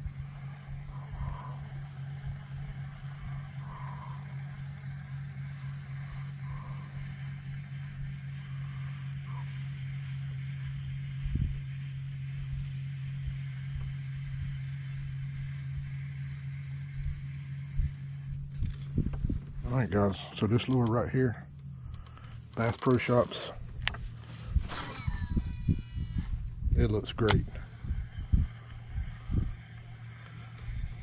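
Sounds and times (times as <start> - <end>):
electric motor humming: 0.0 - 31.0.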